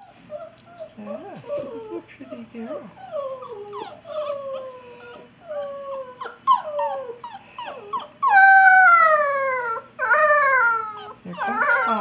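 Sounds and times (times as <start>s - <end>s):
puppy whining: 0.0s - 12.0s.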